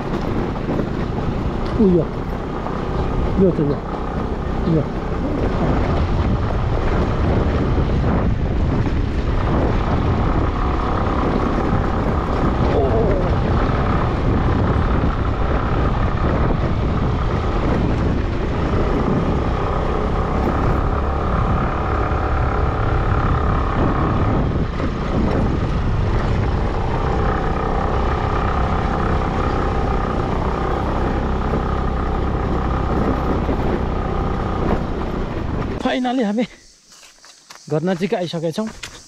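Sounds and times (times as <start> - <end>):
motorcycle engine running: 0.0 - 36.5
tyres on gravel road rumble: 0.0 - 39.0.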